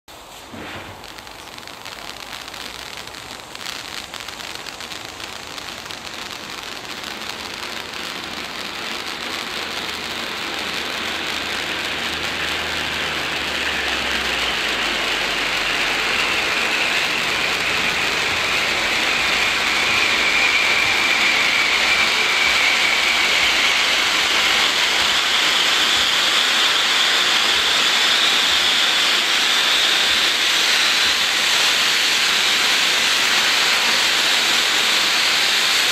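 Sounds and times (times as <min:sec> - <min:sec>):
crackling fountain firework: 0:00.1 - 0:35.9.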